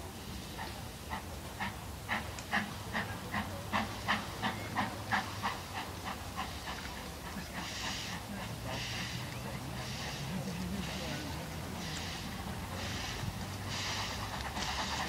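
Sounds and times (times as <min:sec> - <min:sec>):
steam hiss: 0:00.0 - 0:15.0
steam locomotive exhaust beats: 0:00.0 - 0:15.0.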